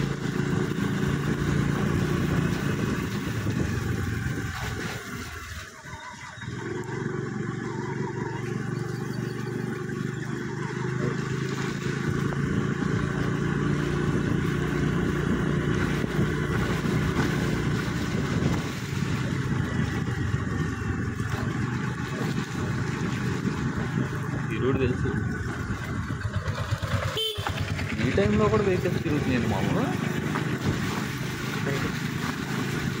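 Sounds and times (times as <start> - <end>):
tyres on wet road: 0.0 - 33.0
vehicle engine running: 0.0 - 33.0.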